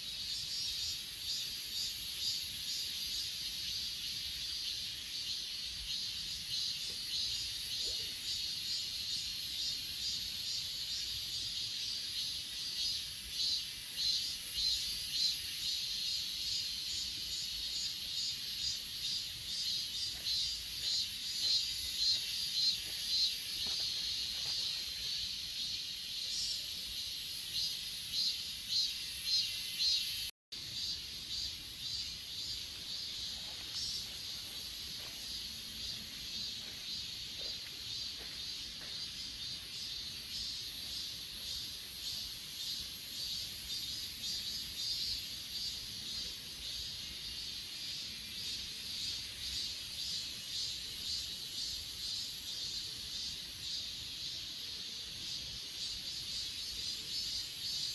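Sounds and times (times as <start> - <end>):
grass insects chirping: 0.0 - 57.9.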